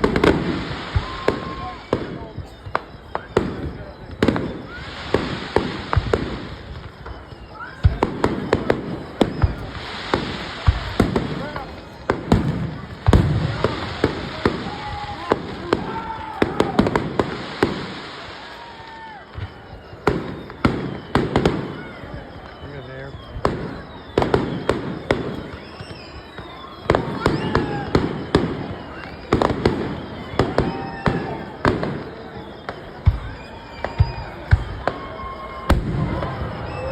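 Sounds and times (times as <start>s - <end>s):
fireworks bangs and booms: 0.0s - 36.9s.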